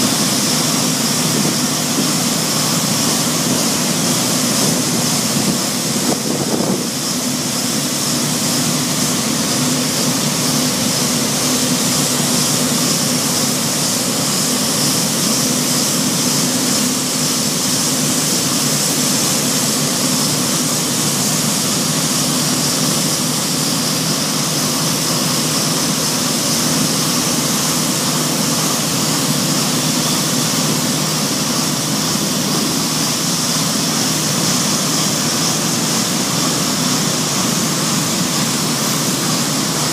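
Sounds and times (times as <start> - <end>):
diesel machinery engines running: 0.0 - 39.9.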